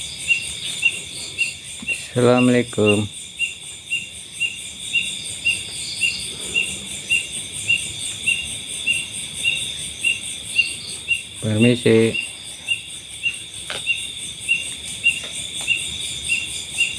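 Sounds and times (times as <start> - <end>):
insect chirping: 0.0 - 16.9
insects trilling: 0.0 - 16.9.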